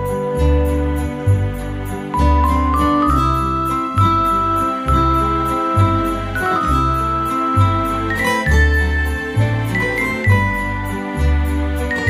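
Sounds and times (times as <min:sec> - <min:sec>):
background music with bass line: 0:00.0 - 0:12.0
high percussion beat: 0:00.0 - 0:12.0.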